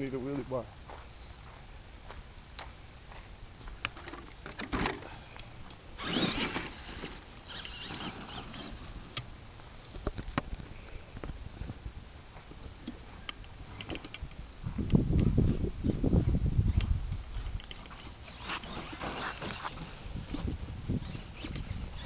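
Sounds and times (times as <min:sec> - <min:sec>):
rc truck motor and tyres: 0:03.8 - 0:22.0.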